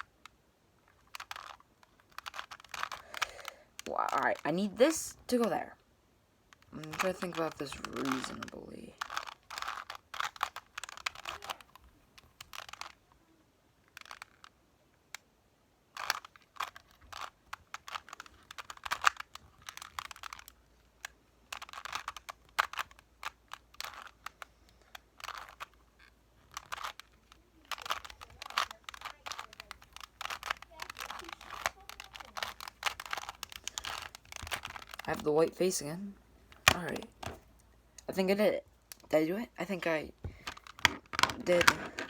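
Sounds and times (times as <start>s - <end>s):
puzzle cube plastic clicks: 0.0s - 5.8s, 6.5s - 13.2s, 13.8s - 15.3s, 15.9s - 42.0s.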